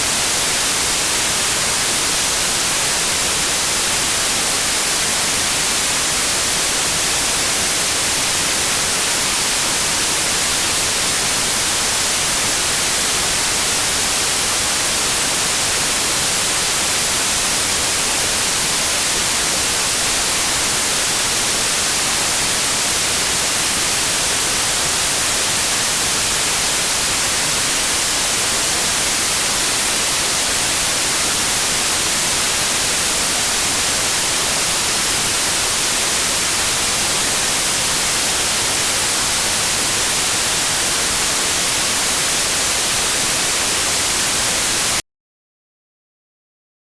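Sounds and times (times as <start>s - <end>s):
white noise hiss: 0.0s - 45.0s.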